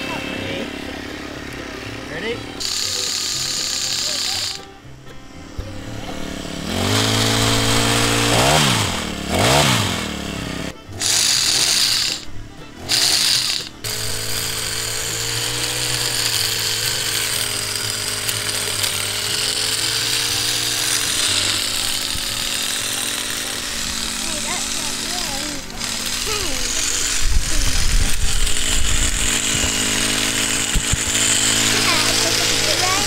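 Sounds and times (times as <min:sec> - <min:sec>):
hedge trimmer engine running: 0:00.0 - 0:33.0.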